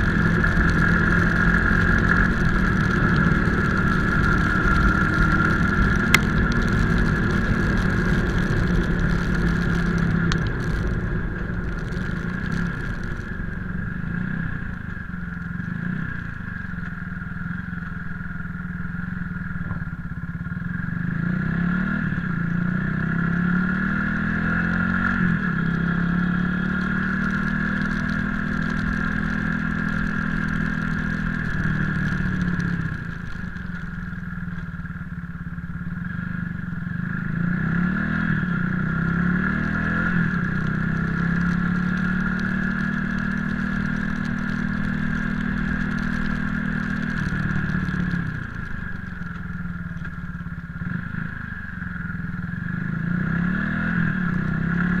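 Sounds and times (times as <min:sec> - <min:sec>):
constant high hum: 0:00.0 - 0:21.4, 0:27.8 - 0:55.0
motorcycle engine revving: 0:00.0 - 0:55.0.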